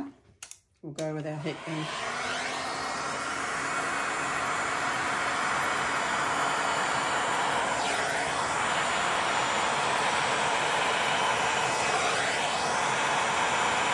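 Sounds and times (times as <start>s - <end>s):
heat gun blowing hot air: 1.1s - 13.9s.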